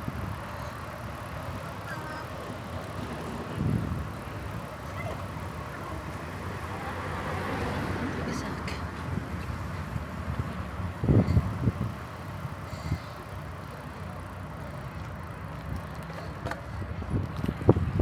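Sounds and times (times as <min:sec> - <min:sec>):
bicycle bumps: 0:00.0 - 0:18.0
bicycle tyres rumbling on path: 0:00.0 - 0:18.0.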